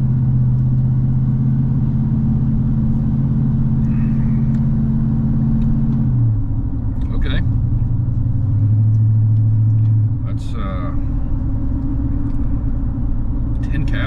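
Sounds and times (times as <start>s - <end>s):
car engine and road drone: 0.0s - 14.0s.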